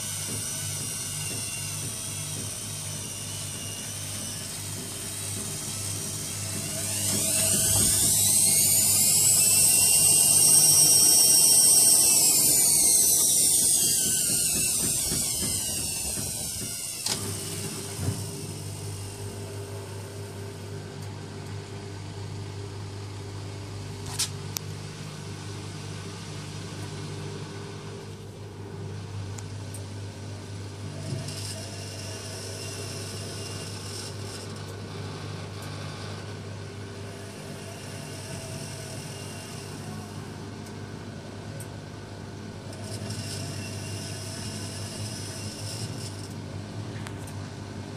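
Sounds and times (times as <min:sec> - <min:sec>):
low mechanical hum: 0:00.0 - 0:47.9
washing machine motor whine: 0:00.0 - 0:47.9.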